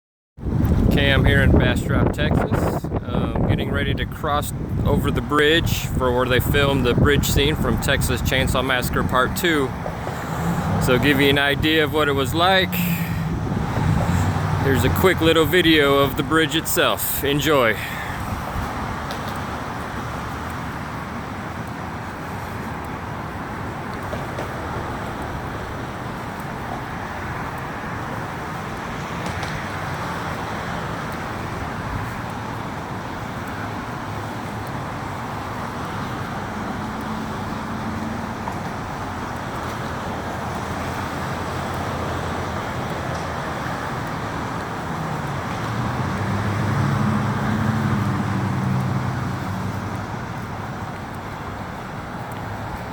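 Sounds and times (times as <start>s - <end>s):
road traffic passing: 0.4s - 52.9s.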